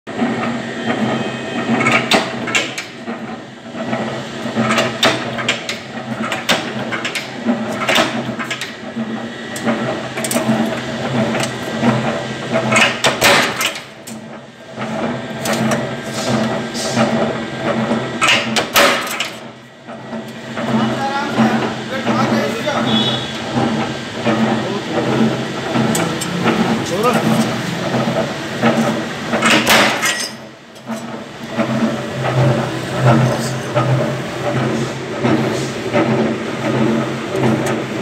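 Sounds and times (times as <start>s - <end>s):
power press flywheel hum: 0.1s - 38.0s.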